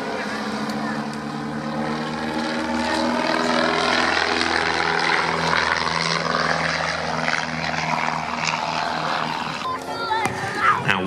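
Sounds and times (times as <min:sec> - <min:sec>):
propeller aircraft droning past: 0:00.0 - 0:11.0.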